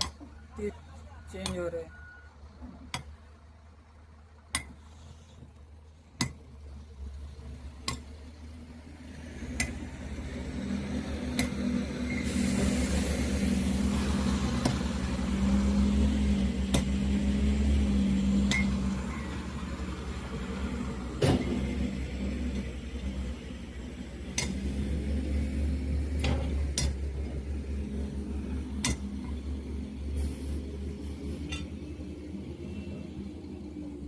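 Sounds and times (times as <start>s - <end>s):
heavy machine engine rumbling: 0.0s - 34.0s.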